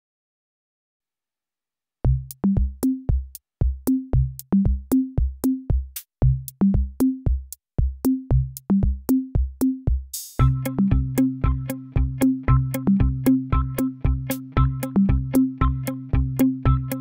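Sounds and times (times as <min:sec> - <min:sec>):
electronic music drum machine beat: 0:02.1 - 0:17.0.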